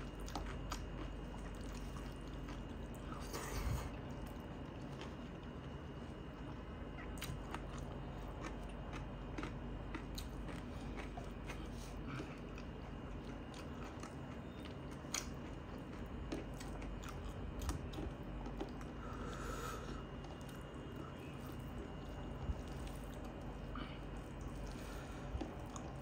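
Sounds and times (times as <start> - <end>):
person chewing: 0.0 - 26.0.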